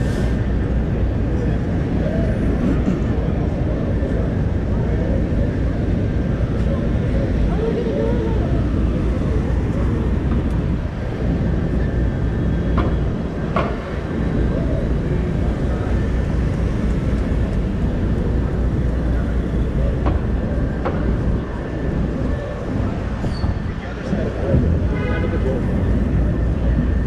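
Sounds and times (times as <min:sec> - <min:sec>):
cars passing: 0:00.0 - 0:27.0
low traffic rumble: 0:00.0 - 0:27.0
people talking: 0:00.0 - 0:27.0.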